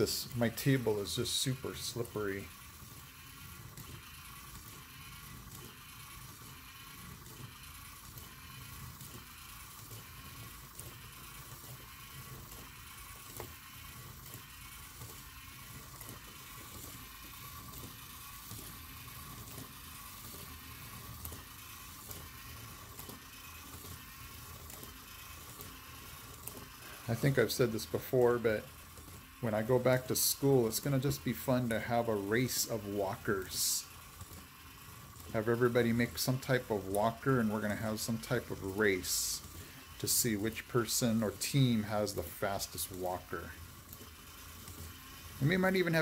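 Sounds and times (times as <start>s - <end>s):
motor and plastic gears whirring: 0.0s - 46.0s.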